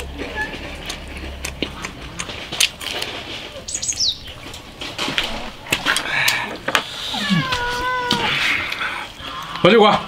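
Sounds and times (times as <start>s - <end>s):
wet chewing and lip-smacking: 0.0s - 9.6s.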